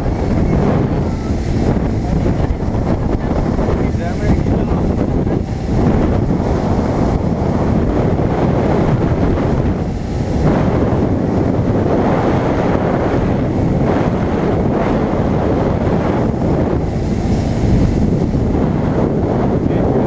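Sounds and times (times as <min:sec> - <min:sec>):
water rushing off boat hull: 0:00.0 - 0:20.0
wind buffeting microphone: 0:00.0 - 0:20.0.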